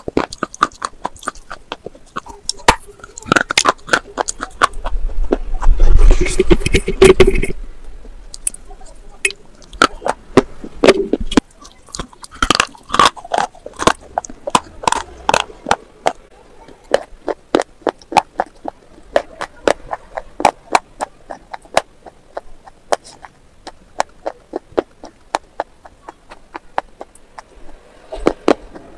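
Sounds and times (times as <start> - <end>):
crisp chewing crunches: 0.0 - 7.6, 8.3 - 28.9.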